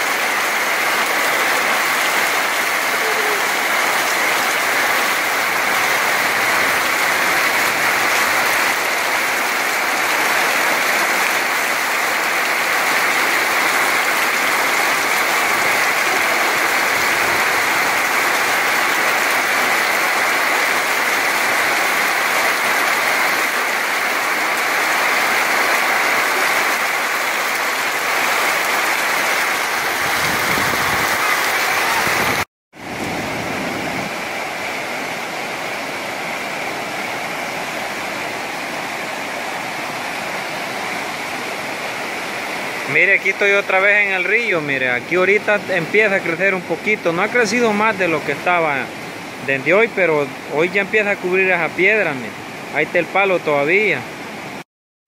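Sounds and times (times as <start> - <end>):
heavy rain falling: 0.0 - 54.6.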